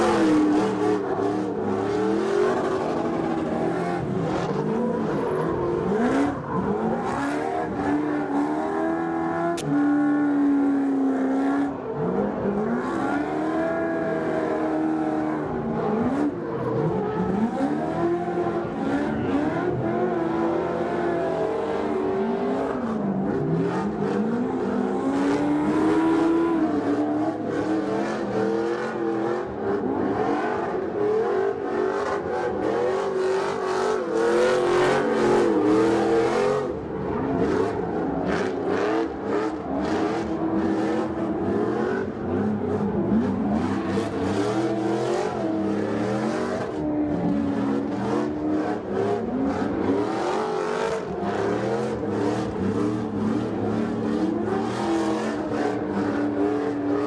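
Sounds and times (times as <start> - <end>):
race truck engine revving: 0.0 - 57.0.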